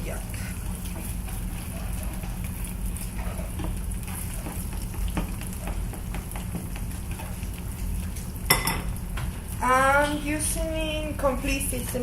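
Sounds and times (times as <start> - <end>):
eggs sizzling in a pan: 0.0 - 12.0.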